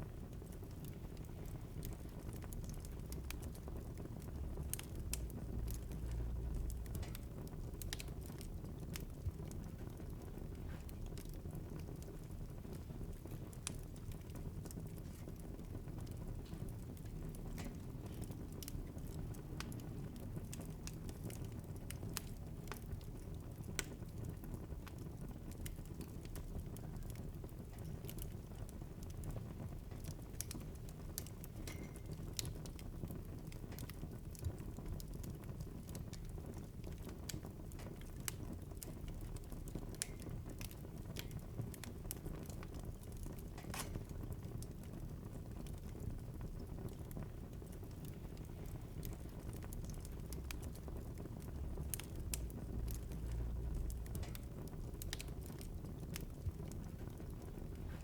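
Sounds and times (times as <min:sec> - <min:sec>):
low rumble of flame: 0:00.0 - 0:58.0
wood fire crackling and popping: 0:00.0 - 0:58.0.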